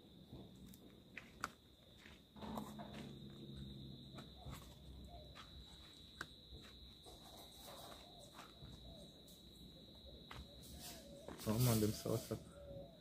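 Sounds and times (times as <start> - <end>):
high-pitched insect trill: 1.7 - 13.0.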